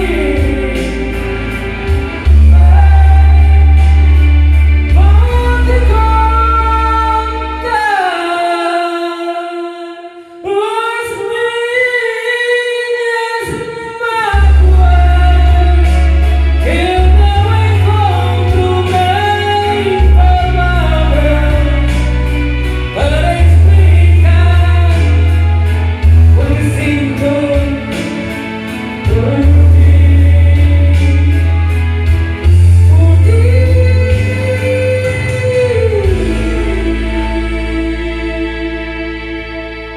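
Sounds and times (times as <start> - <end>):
steady bass line: 0.0 - 8.2, 14.3 - 39.9
person singing to karaoke track: 0.0 - 39.9.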